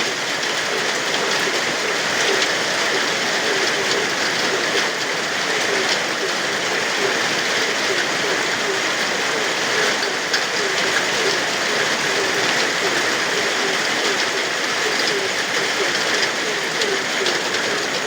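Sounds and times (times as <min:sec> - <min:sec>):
frogs croaking: 0:00.0 - 0:18.0
steady rain: 0:00.0 - 0:18.0.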